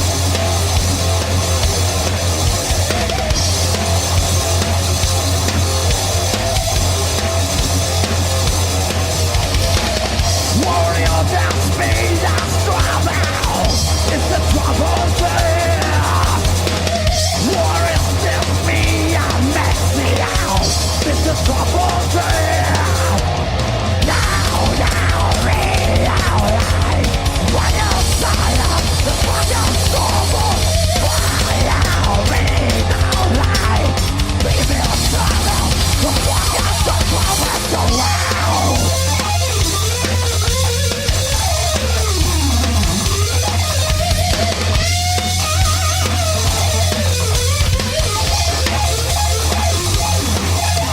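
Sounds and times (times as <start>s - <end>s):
drum kit: 0.0s - 50.9s
electric guitars: 0.0s - 50.9s
thrash metal song: 0.0s - 50.9s.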